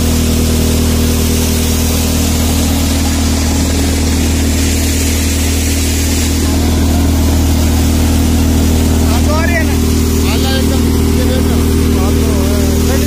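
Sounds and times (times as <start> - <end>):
rush of straw being blown out: 0.0 - 11.0
tractor engine and thresher drone: 0.0 - 13.0.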